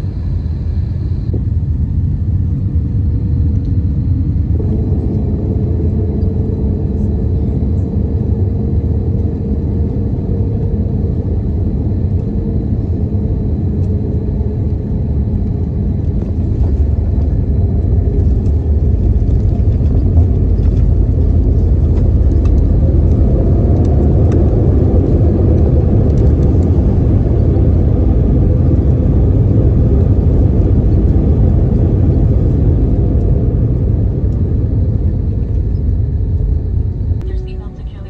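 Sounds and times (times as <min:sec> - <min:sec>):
engines and wheels rumbling: 0:00.0 - 0:38.0.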